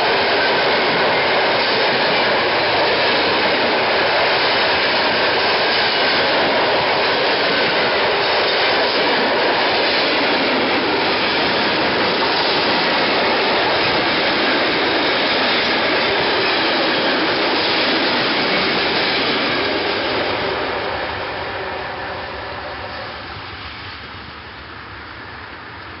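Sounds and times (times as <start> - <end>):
freight train rolling on rails: 0.0 - 26.0.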